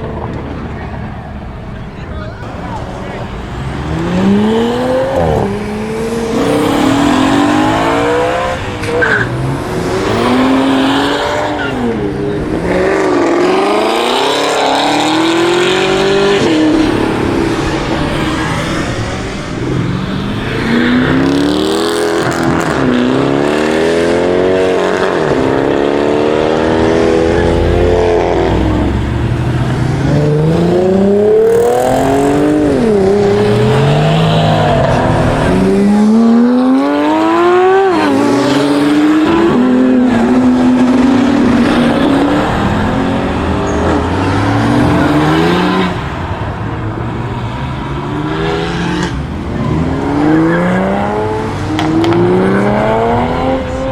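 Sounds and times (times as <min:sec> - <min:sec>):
performance car engines accelerating: 0:00.0 - 0:53.9.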